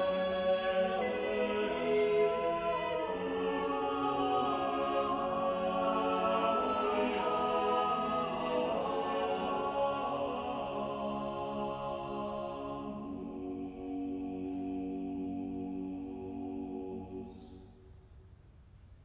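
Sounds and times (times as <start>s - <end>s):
choir singing sustained chords: 0.0s - 18.1s.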